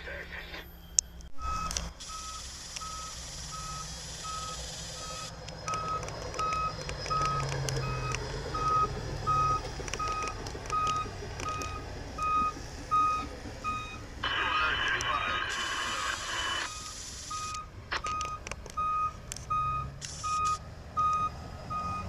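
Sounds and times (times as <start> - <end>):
truck engine rumble: 0.0 - 22.0
backup alarm beeping: 0.1 - 22.0.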